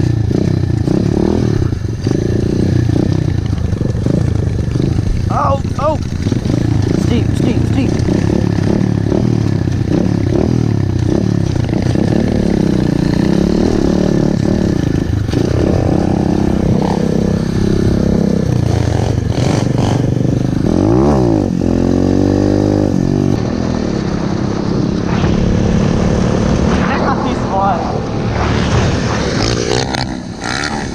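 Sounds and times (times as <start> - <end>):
motorbike engine revving: 0.0 - 30.9.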